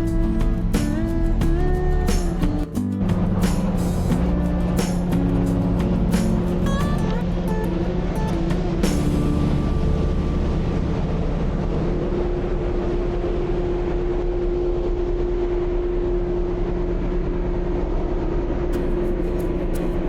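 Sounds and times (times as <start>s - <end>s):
steady tone: 0.0s - 17.2s
low engine hum: 0.0s - 20.0s
rushing noise: 0.0s - 20.0s.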